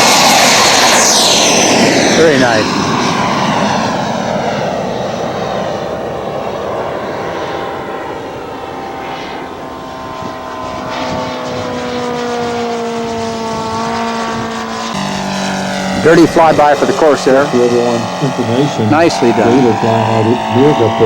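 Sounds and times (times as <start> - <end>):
model plane propeller engine: 0.0 - 21.0.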